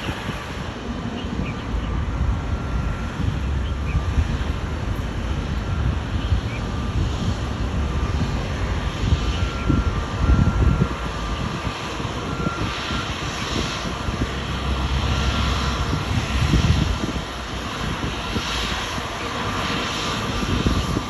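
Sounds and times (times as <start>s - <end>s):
jet engines rumbling roar: 0.0s - 21.0s.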